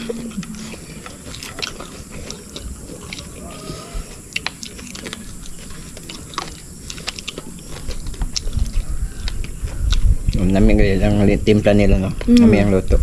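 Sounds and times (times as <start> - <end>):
chewing: 0.0 - 10.8.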